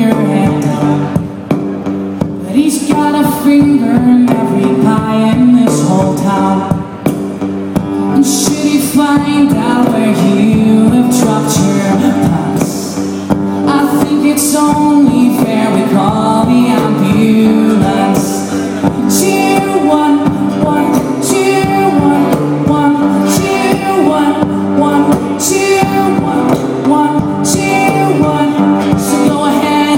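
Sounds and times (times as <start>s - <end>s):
band music with singing: 0.0s - 29.9s.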